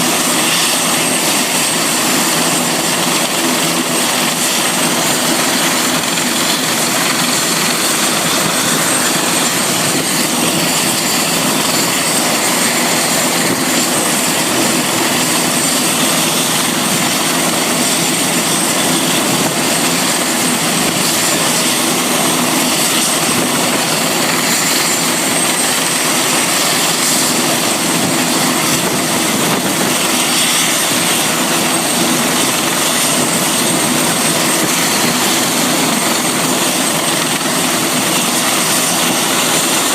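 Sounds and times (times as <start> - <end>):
helicopter rushing and whining: 0.0 - 39.9.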